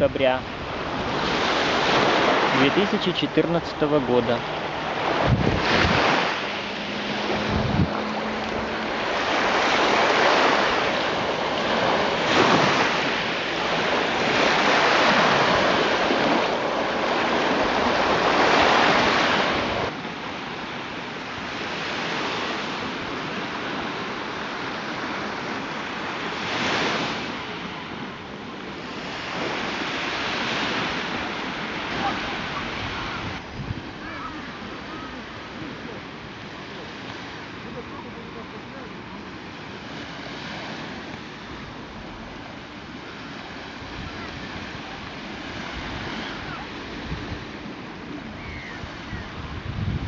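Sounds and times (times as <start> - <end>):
wind buffeting microphone: 0.0 - 20.7, 21.4 - 34.7, 43.5 - 50.0
small waves washing onto beach: 0.0 - 50.0.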